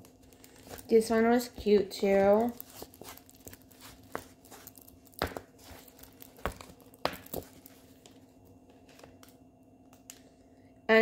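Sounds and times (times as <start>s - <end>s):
plastic crinkling: 0.0s - 10.4s
faint steady hum: 0.0s - 11.0s.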